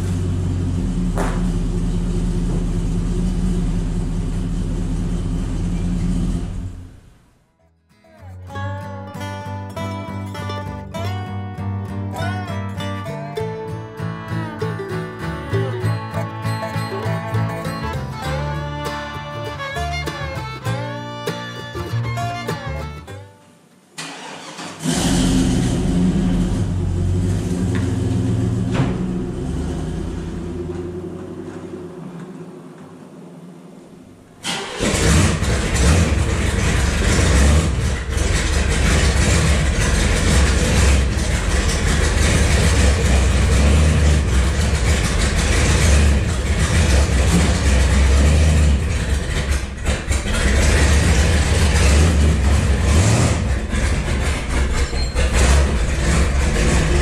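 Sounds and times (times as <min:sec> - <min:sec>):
loud engine low rumble: 0:00.0 - 0:07.4, 0:13.5 - 0:23.2, 0:24.8 - 0:57.0
car engine starting and running: 0:00.0 - 0:07.5, 0:16.8 - 0:57.0.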